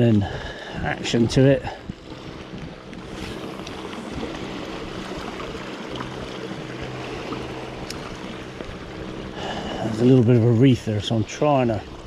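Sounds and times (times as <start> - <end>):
sea water lapping on rocks: 0.0 - 12.0.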